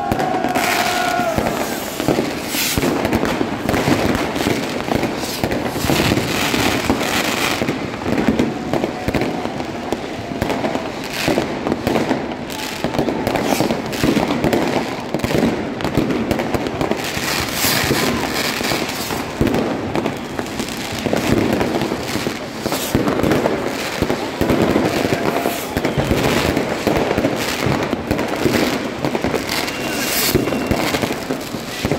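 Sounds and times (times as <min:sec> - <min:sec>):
fireworks banging and crackling: 0:00.0 - 0:31.9.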